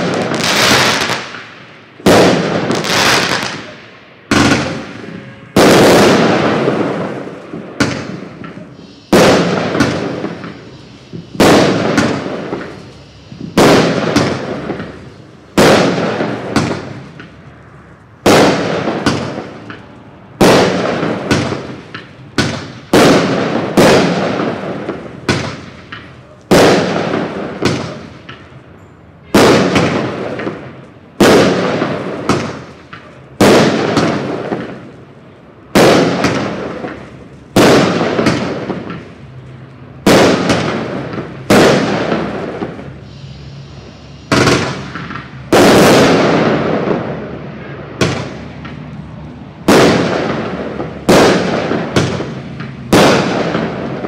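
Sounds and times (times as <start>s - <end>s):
firework bangs: 0.0s - 28.6s, 29.2s - 54.0s.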